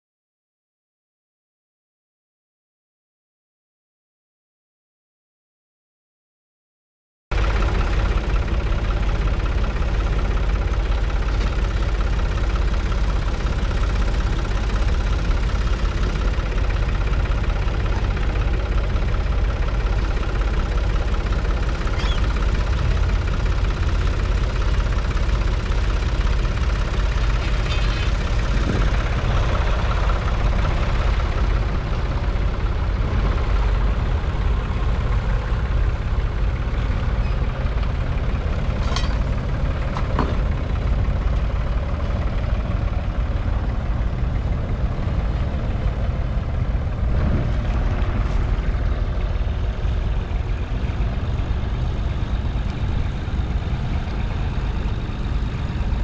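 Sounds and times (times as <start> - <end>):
diesel tractor engine running: 7.3 - 56.0.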